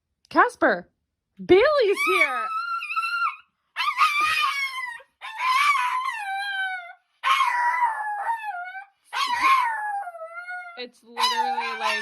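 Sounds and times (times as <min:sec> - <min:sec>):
dog howling: 0:01.9 - 0:12.0.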